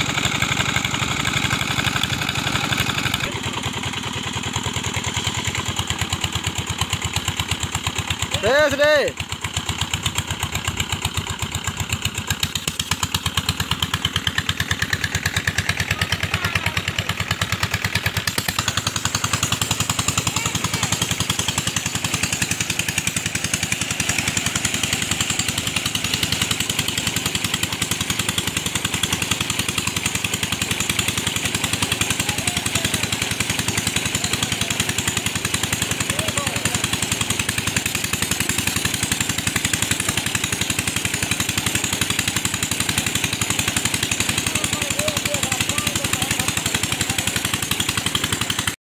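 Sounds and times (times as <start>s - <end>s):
diesel engine running: 0.0s - 48.8s.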